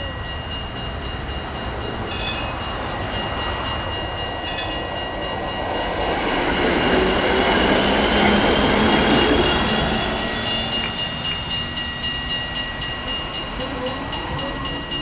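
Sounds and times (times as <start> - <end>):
high ringing tram bell: 0.0 - 15.0
tram running on rails: 0.0 - 15.0.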